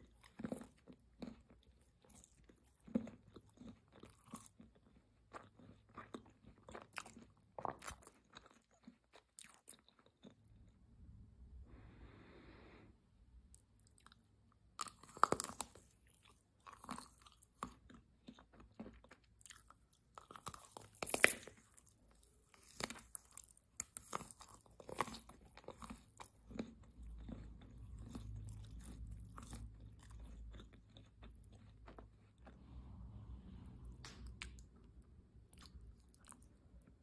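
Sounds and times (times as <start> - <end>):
crunching chocolate candy: 0.0 - 10.7, 13.5 - 32.6
soft closed-mouth chewing: 0.0 - 10.9, 13.4 - 21.0, 21.6 - 37.0.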